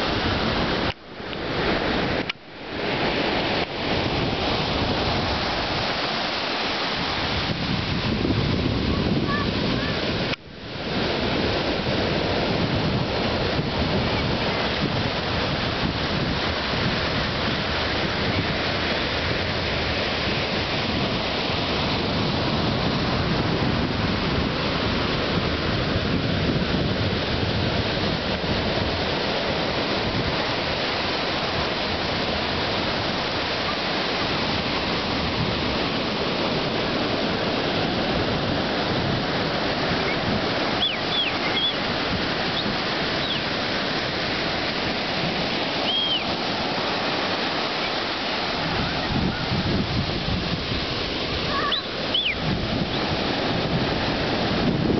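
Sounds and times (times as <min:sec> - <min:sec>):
surf breaking on beach: 0:00.0 - 0:54.9
wind rumbling on microphone: 0:00.0 - 0:54.9.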